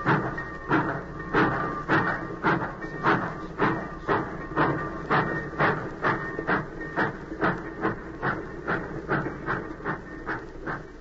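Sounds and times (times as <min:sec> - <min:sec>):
steam train chuffing: 0:00.0 - 0:11.0.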